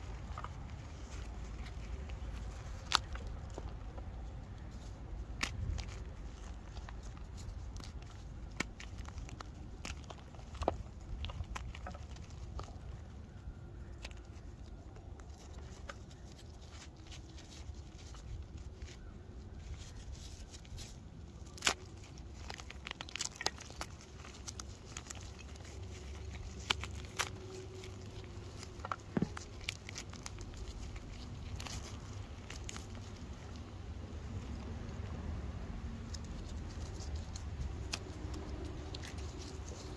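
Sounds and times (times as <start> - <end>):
chalk crunching between fingers: 0.0 - 39.9
chalk chunks cracking: 0.2 - 34.9, 36.0 - 39.9.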